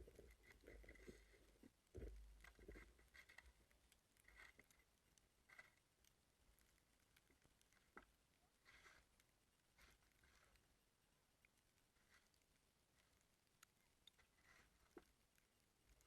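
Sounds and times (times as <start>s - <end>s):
faint taps and scrapes: 0.0s - 10.8s, 11.4s - 16.0s.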